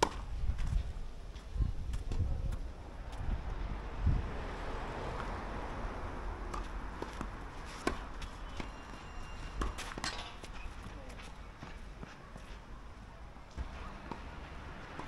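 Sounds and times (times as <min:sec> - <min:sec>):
steady outdoor noise: 0:00.0 - 0:15.0.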